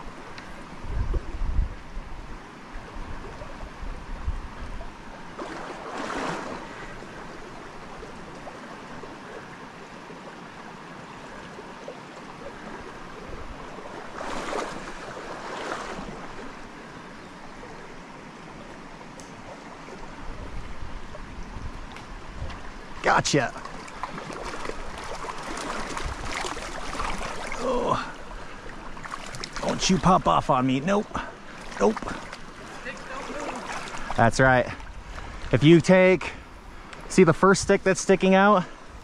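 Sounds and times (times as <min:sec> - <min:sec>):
creek running: 0:00.0 - 0:39.0.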